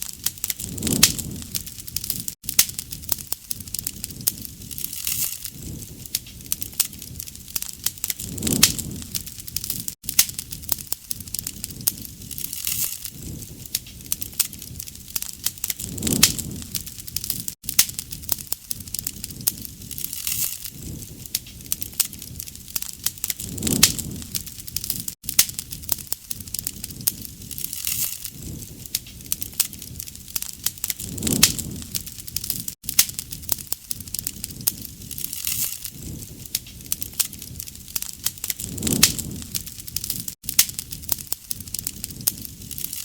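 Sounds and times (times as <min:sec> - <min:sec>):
campfire crackling and popping: 0:00.0 - 0:43.0
low rushing of flames: 0:00.0 - 0:43.0.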